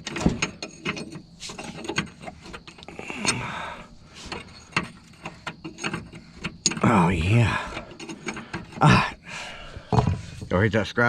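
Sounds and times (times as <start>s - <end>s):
hand tools clinking on metal: 0.0s - 9.2s.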